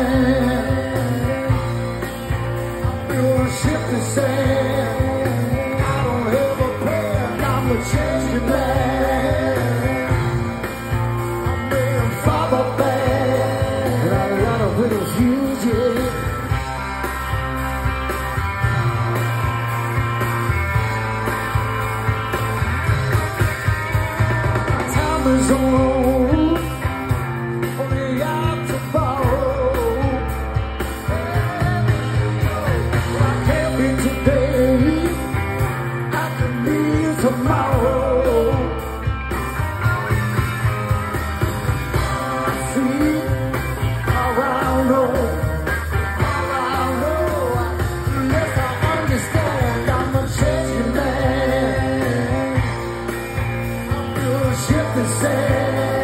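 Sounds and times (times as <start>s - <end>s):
bass line: 0.0s - 56.0s
drums: 0.0s - 56.0s
electric guitars: 0.0s - 56.0s.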